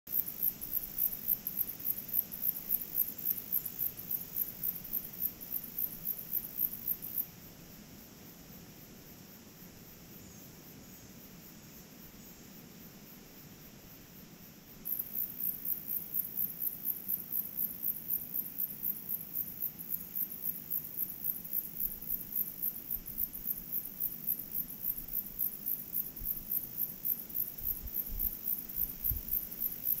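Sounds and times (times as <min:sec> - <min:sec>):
insects pulsing trill: 0:00.1 - 0:30.0.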